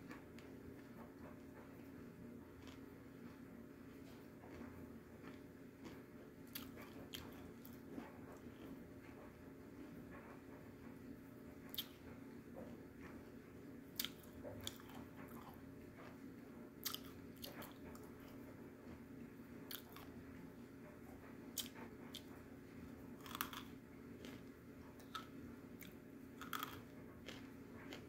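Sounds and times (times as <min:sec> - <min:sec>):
crunchy chewing: 0:00.0 - 0:09.2, 0:11.7 - 0:13.2, 0:13.9 - 0:19.1, 0:19.7 - 0:20.7, 0:21.5 - 0:22.4, 0:23.1 - 0:28.0.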